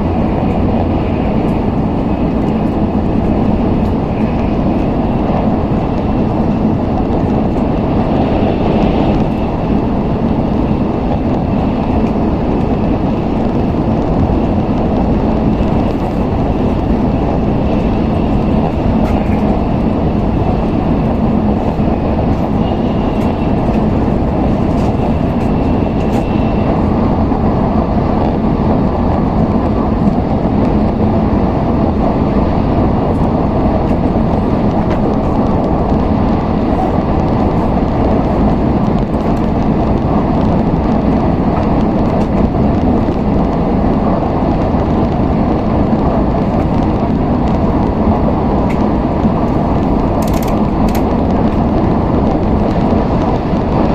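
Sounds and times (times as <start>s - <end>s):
train running noise inside car: 0.0s - 53.9s.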